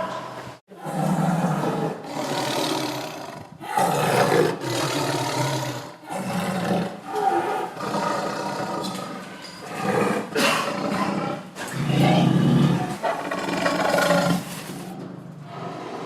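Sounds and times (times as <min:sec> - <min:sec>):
tiger roaring: 0:00.7 - 0:16.0.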